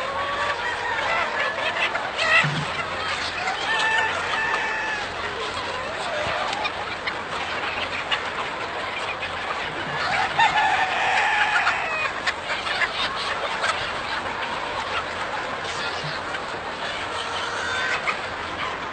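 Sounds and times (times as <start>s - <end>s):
chickens clucking and squawking: 0.0s - 18.9s
drawn-out chicken call: 0.0s - 18.9s.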